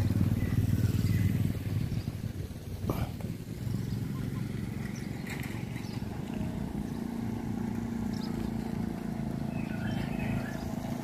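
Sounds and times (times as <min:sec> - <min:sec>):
motorbike engine idling: 0:00.0 - 0:11.0.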